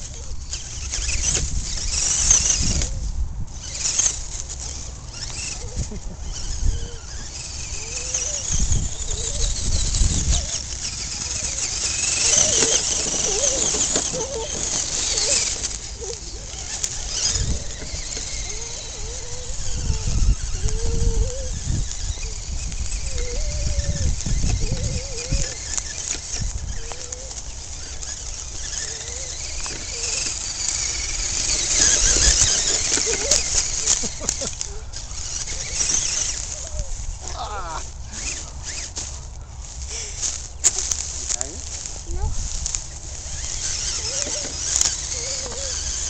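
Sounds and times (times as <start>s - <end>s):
wind buffeting microphone: 0.0s - 38.8s
electric motor and gears whining: 0.0s - 46.0s.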